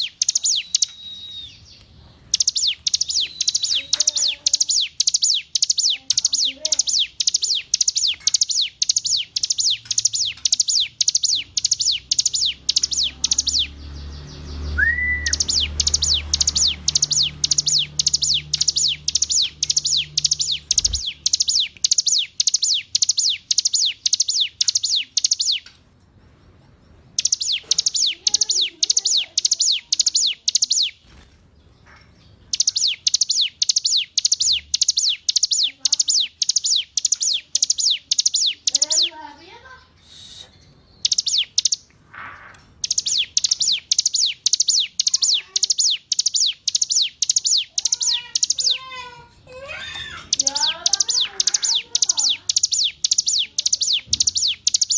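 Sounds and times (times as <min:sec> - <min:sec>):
bird chirping high sweeping notes: 0:00.0 - 0:25.7, 0:27.1 - 0:31.2, 0:32.4 - 0:41.9, 0:42.6 - 0:54.9.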